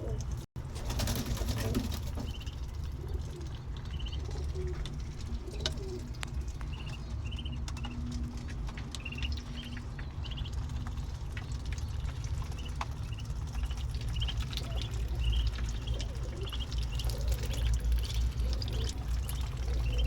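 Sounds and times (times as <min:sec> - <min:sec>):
low rumble: 0:00.0 - 0:20.0
ducklings peeping: 0:01.1 - 0:20.0.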